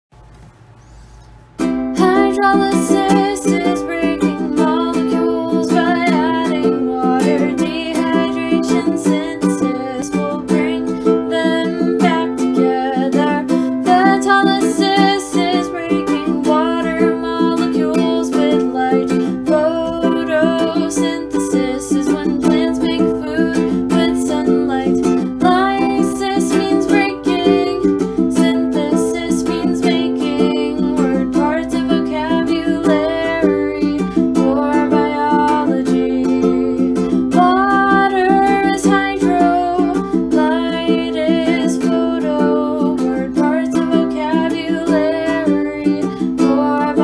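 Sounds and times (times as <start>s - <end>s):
ukulele strumming: 0.2s - 47.0s
person singing: 1.8s - 47.0s.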